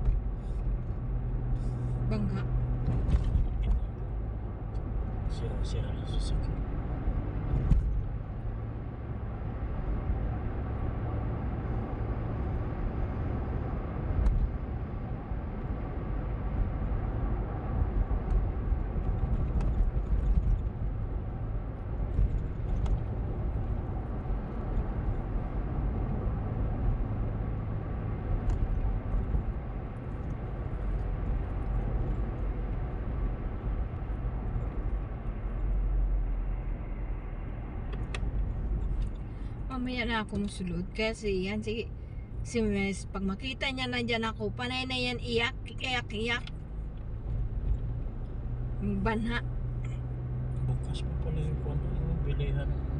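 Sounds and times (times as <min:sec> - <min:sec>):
car cabin road and engine noise: 0:00.0 - 0:52.9.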